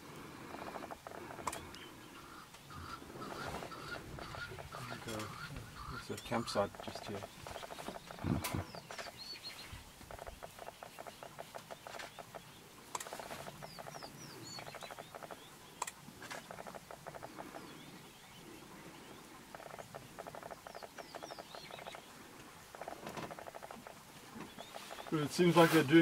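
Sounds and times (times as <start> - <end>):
wild dogs twittering: 0.3 - 25.3.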